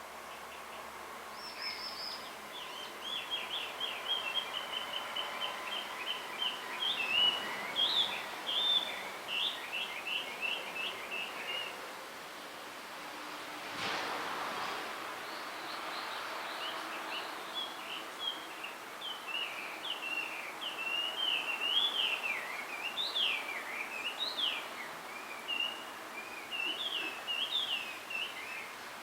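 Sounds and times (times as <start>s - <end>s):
bird singing whistled warbling song: 1.4s - 11.8s, 15.7s - 28.7s.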